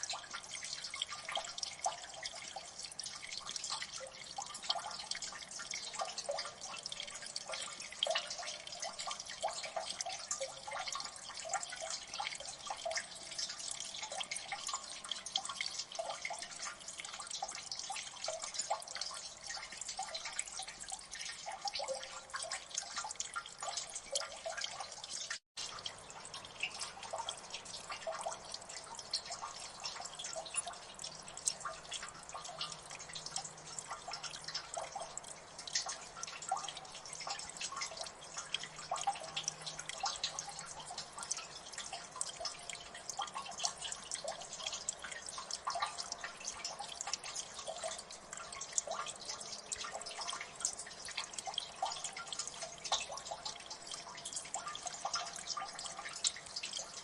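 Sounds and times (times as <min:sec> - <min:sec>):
water dripping: 0:00.0 - 0:57.0.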